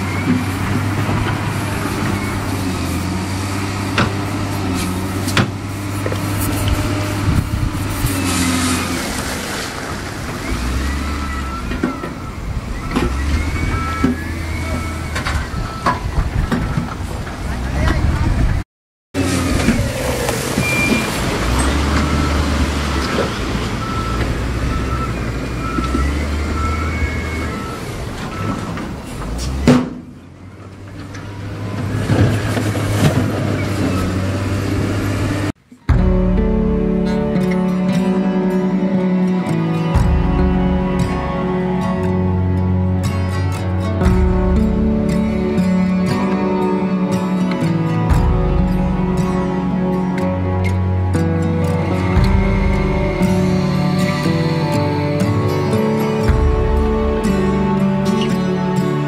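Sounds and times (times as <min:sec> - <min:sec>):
diesel engine running: 0:00.0 - 0:18.6, 0:19.2 - 0:59.0.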